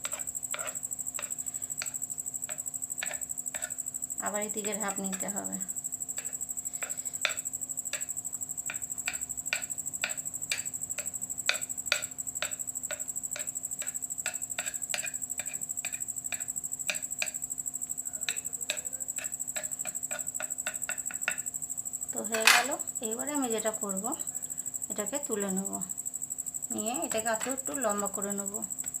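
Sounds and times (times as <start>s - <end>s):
cricket trill: 0.0s - 29.0s.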